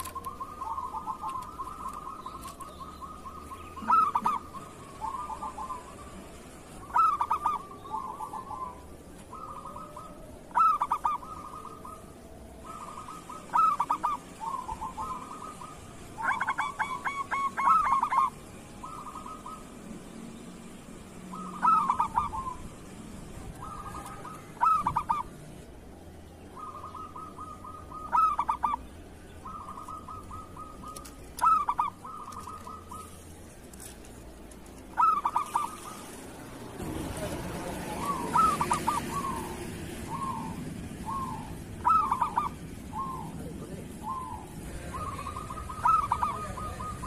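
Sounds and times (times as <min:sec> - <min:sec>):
dove cooing: 0:00.0 - 0:20.1, 0:21.1 - 0:47.0.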